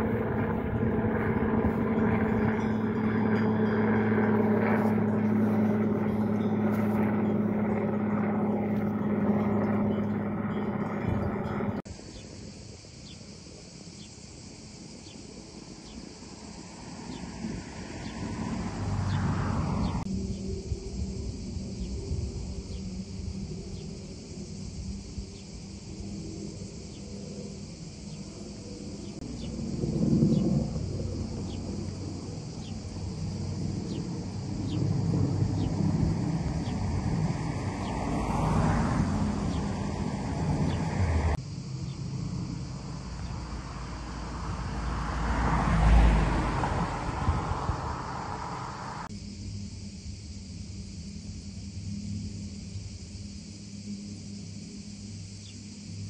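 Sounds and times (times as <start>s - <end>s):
aircraft engine drone overhead: 0.0s - 56.0s
shrill insect chorus: 0.0s - 56.0s.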